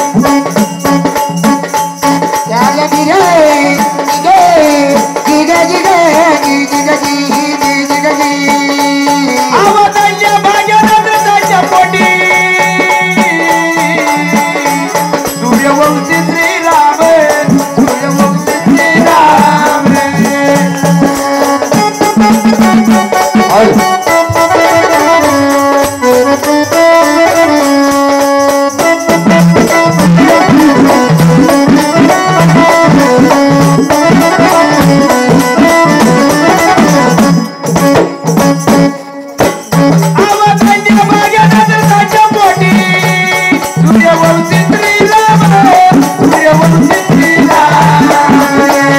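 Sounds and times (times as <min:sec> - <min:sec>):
jingling hand percussion: 0:00.0 - 0:48.9.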